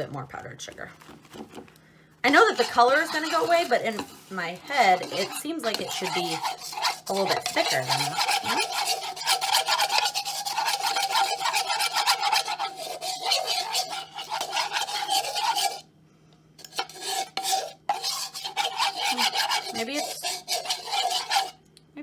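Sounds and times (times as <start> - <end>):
spoon scraping plastic bowl: 2.3 - 15.9, 16.6 - 21.6.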